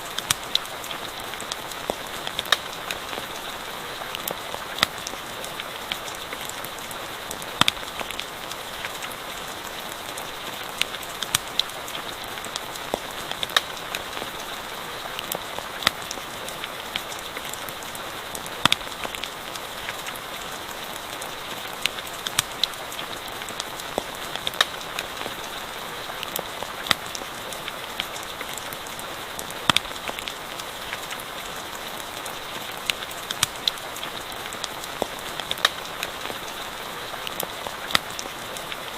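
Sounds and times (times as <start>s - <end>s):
campfire crackling and popping: 0.0s - 38.9s
steady rain: 0.0s - 38.9s.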